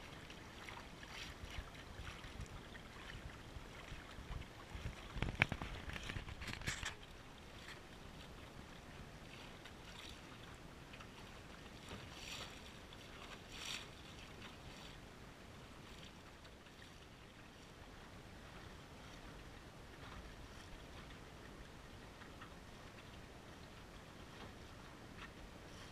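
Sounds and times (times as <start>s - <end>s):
rush of wind and water: 0.0s - 25.9s
water splashing against a hull: 0.0s - 25.9s.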